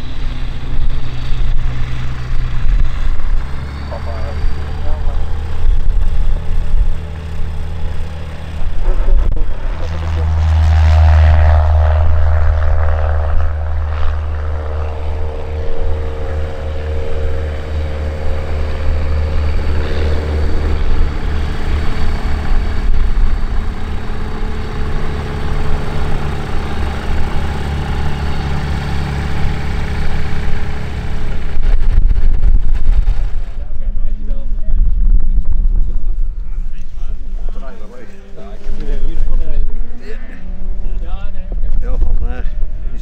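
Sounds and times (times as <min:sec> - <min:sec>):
light aircraft engine droning: 0:00.0 - 0:43.0
strong low rumble: 0:00.0 - 0:43.0.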